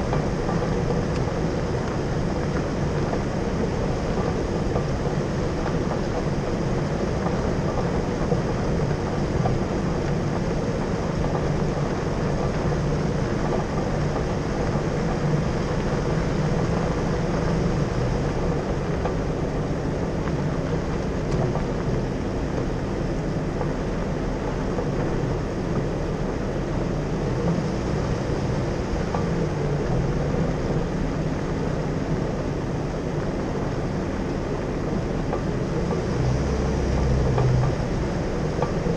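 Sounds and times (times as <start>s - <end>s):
vehicle driving on gravel: 0.0s - 38.9s.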